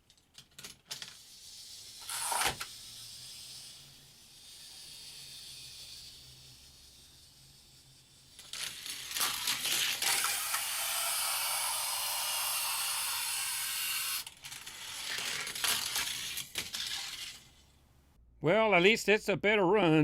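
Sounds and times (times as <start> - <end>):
toy car clattering: 0.0 - 17.8
toy car wheels hissing on track: 0.9 - 17.7.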